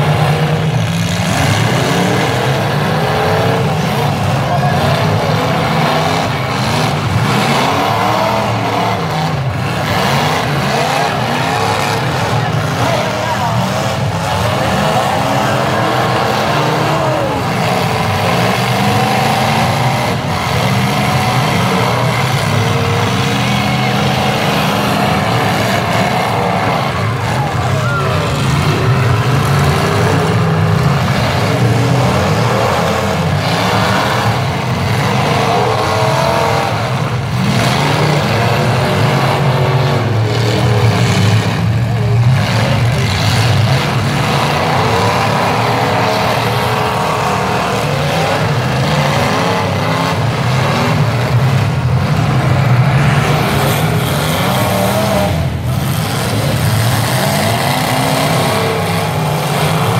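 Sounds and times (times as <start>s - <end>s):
car engines revving: 0.0s - 59.9s
cars ramming each other: 0.0s - 59.9s.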